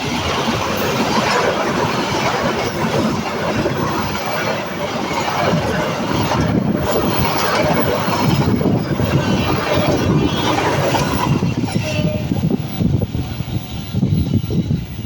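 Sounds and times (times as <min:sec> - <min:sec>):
passenger train passing: 0:00.0 - 0:15.0
wind buffeting microphone: 0:00.0 - 0:15.0.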